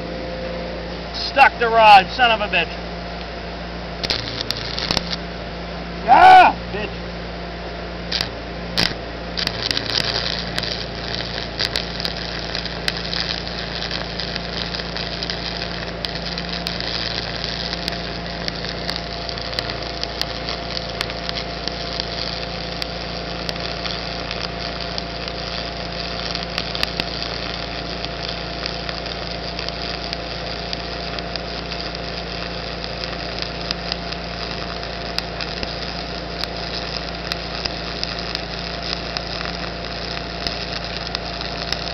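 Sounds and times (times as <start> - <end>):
machine hum: 0.0 - 41.9
welding arc crackling and popping: 1.1 - 5.4, 6.0 - 7.0, 8.0 - 41.9.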